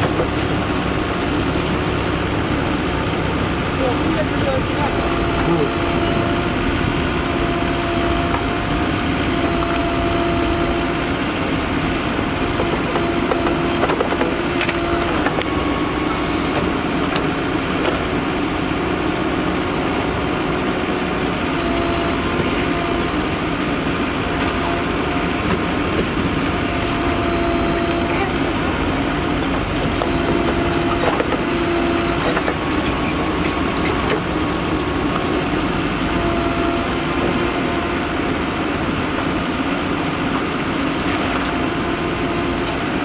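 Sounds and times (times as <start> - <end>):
diesel engine under load: 0.0 - 43.0
hydraulic whine: 0.0 - 43.0.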